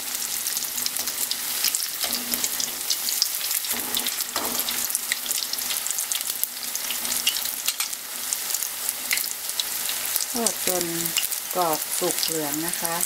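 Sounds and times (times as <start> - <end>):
fritters frying in hot oil: 0.0 - 13.0.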